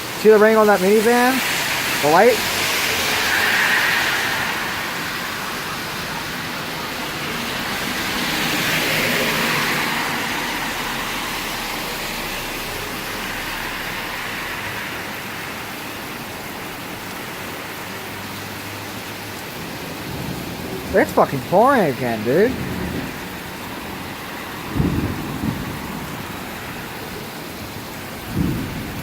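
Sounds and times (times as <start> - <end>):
car tyres hissing on wet road: 0.0 - 29.0
heavy rain pouring: 0.0 - 29.0.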